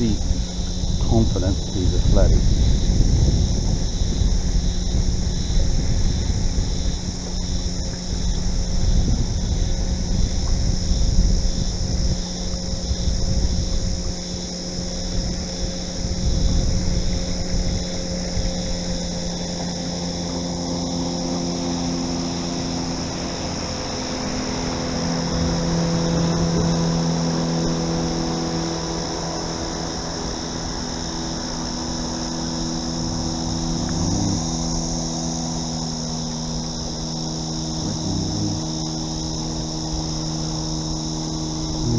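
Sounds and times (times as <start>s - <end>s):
boat motor humming: 0.0s - 41.9s
insects buzzing: 0.0s - 41.9s.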